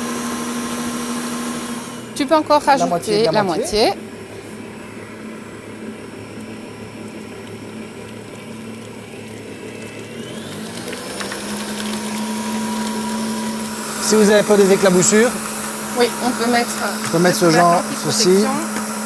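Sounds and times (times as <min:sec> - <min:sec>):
stand mixer motor running: 0:00.0 - 0:19.0.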